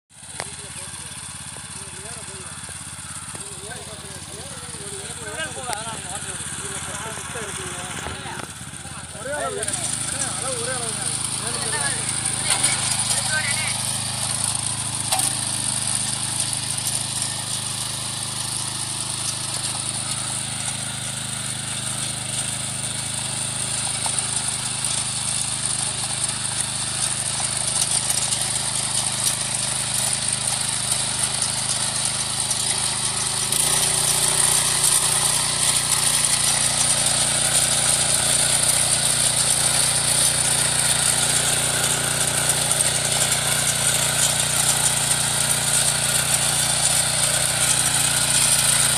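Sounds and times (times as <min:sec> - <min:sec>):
small engine running: 0:00.1 - 0:48.9
tines tilling soil: 0:00.1 - 0:48.9.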